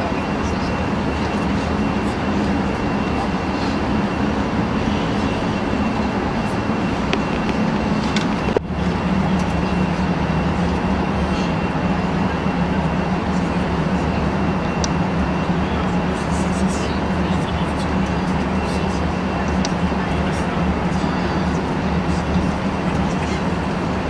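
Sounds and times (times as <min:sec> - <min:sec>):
airplane cabin noise: 0:00.0 - 0:24.0.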